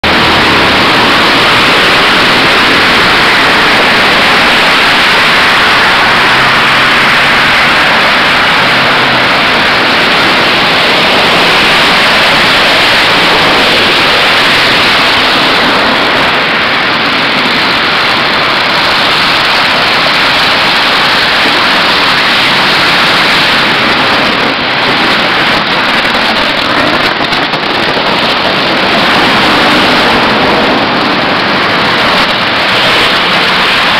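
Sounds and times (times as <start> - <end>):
freezing rain hissing: 0.0 - 33.9.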